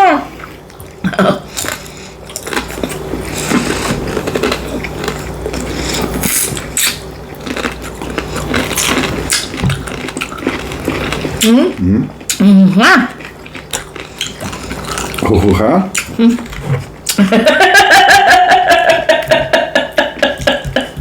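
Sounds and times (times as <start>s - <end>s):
steady low hum: 0.0s - 21.0s
chewing and mouth noises: 0.3s - 17.2s.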